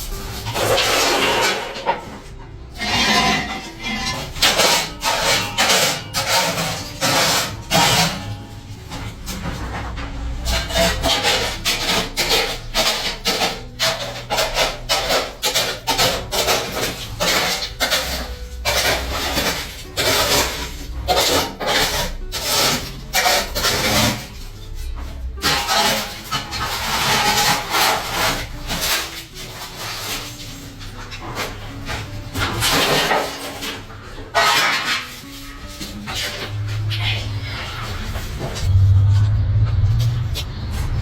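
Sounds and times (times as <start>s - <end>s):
rasping rubbing strokes: 0.0s - 41.0s.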